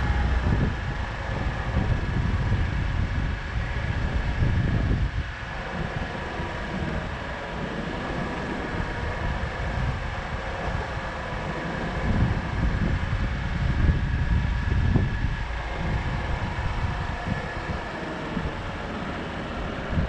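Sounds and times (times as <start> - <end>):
vehicle rumble: 0.0 - 20.0
wind noise on microphone: 0.0 - 20.0.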